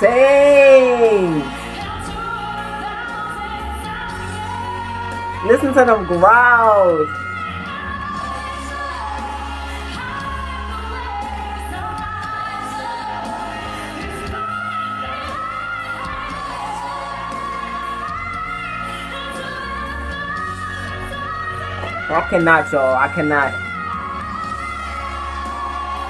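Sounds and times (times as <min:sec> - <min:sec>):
woman singing a ballad: 0:00.0 - 0:26.0.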